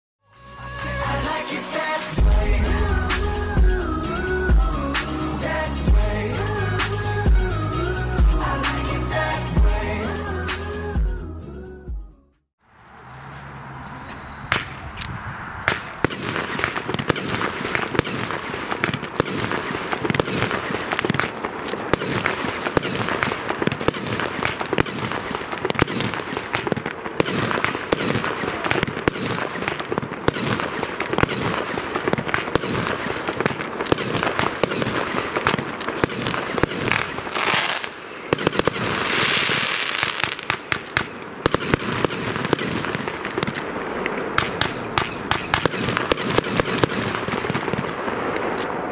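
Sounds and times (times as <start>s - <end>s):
fireworks crackling: 0.3s - 11.0s, 14.5s - 48.9s
fireworks hiss: 0.4s - 10.9s, 14.5s - 48.9s
fireworks shots and bursts: 0.6s - 11.0s, 14.5s - 48.9s.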